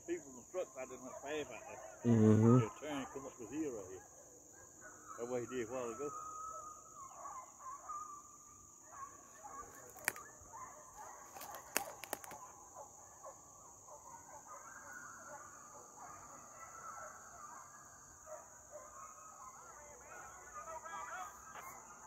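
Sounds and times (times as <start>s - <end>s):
insects droning: 0.0s - 22.0s
hounds baying: 0.4s - 22.0s.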